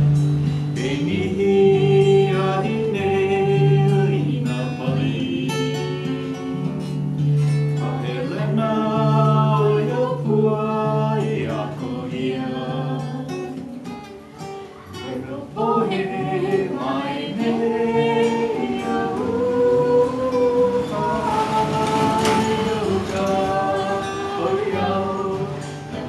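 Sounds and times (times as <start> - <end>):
fingerpicked acoustic guitar: 0.0 - 26.0
group singing slow song: 0.0 - 26.0.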